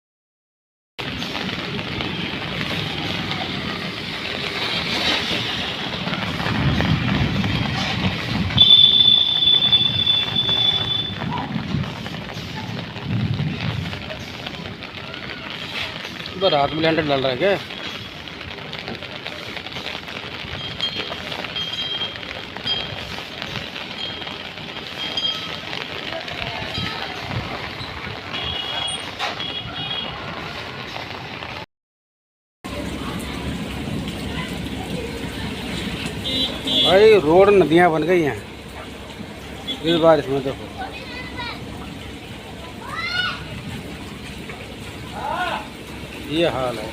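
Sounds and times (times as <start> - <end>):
heavy rain hiss: 1.0 - 31.5, 32.7 - 46.9
traffic: 1.0 - 31.7, 32.6 - 46.9.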